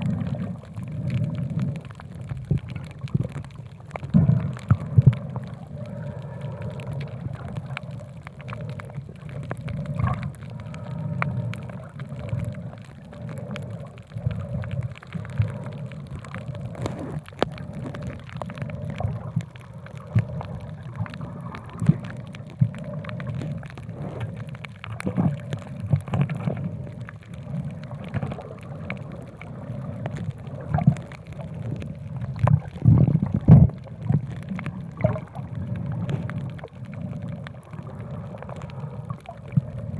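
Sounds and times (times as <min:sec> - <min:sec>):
muffled underwater rush: 0:00.0 - 0:39.9
underwater bubbling and pops: 0:00.0 - 0:39.9.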